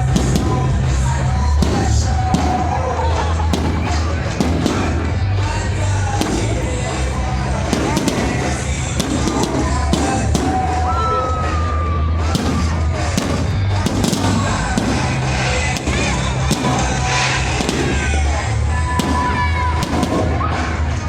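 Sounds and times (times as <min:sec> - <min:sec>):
fireworks popping and banging: 0:00.0 - 0:21.0
loud music with heavy bass: 0:00.0 - 0:21.0.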